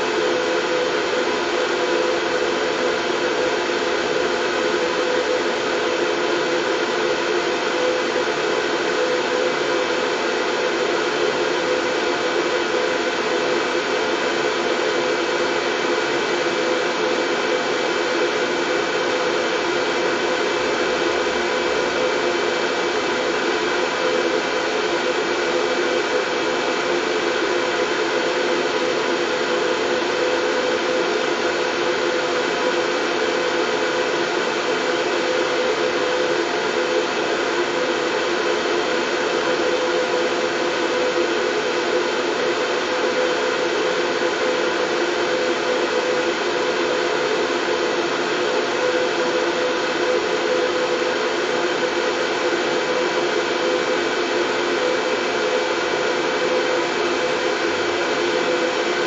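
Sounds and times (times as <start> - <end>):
steady white noise: 0.0 - 59.0.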